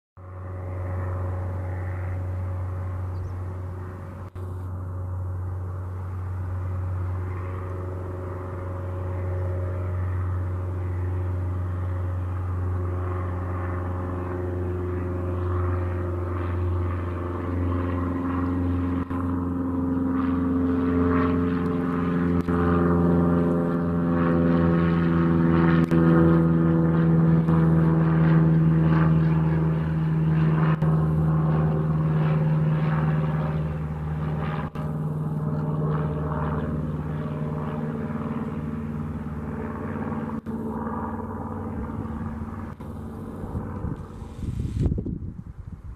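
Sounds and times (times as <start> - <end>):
propeller plane engine: 0.2 - 45.9.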